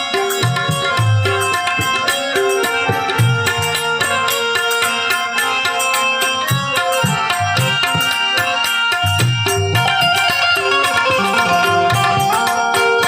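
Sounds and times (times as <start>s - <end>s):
harmonium melody: 0.0s - 13.0s
tabla drumming: 0.0s - 13.0s.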